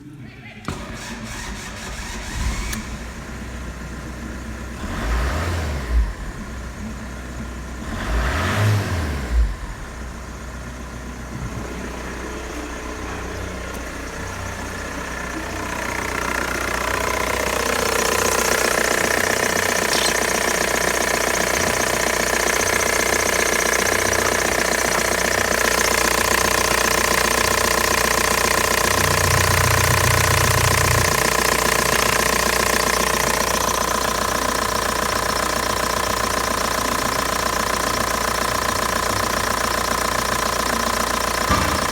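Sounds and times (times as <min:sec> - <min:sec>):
diesel engine running: 0:00.7 - 0:41.9.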